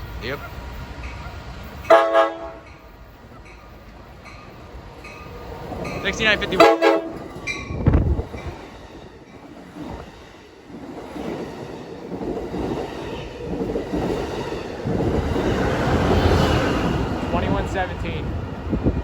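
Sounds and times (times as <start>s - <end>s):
train rumble and wheel noise: 0.0s - 19.0s.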